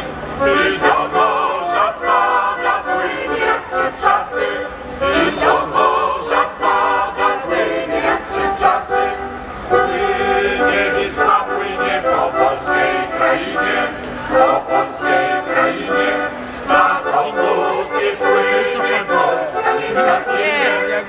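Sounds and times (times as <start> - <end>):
mixed choir singing: 0.0 - 21.0
musical accompaniment: 0.0 - 21.0.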